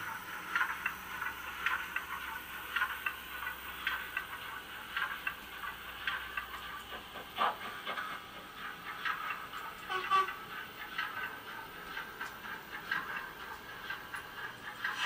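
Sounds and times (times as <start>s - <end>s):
model steam locomotive beats: 0.0s - 15.0s.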